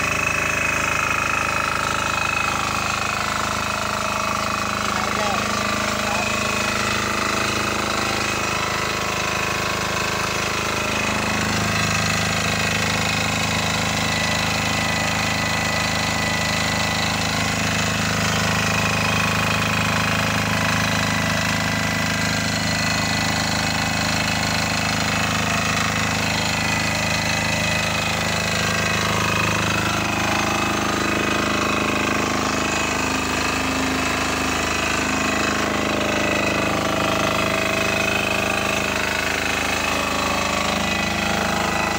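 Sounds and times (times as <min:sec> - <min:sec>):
generator diesel engine running: 0:00.0 - 0:41.9.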